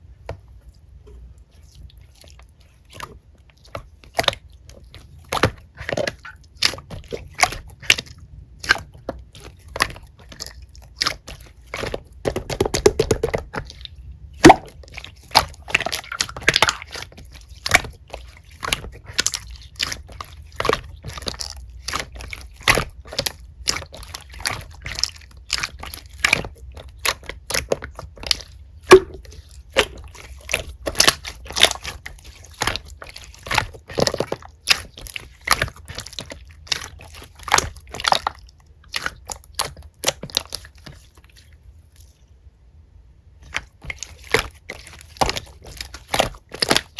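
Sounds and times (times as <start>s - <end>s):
slime squishing and popping: 2.6s - 41.4s, 43.4s - 46.9s.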